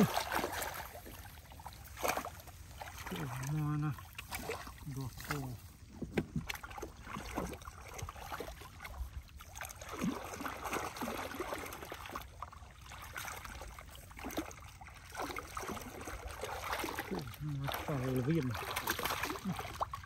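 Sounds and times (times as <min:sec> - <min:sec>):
muddy water sloshing: 0:00.0 - 0:20.0.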